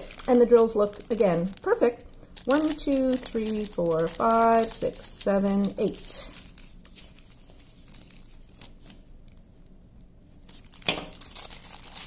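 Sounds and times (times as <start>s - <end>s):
plastic bags crinkling: 0.0s - 9.5s, 10.4s - 12.0s.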